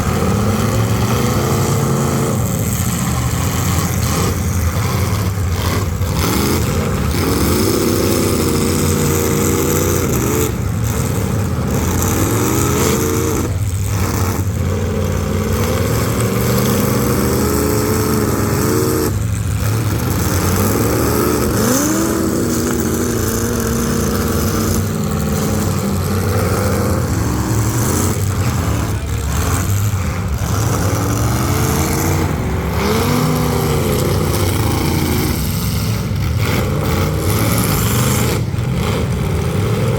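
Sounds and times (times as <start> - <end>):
car engines revving: 0.0 - 39.9
low engine rumble: 0.0 - 39.9.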